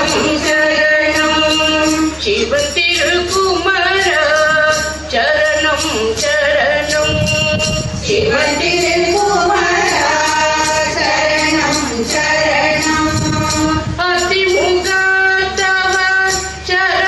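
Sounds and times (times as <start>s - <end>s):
women singing devotional song: 0.0s - 17.0s.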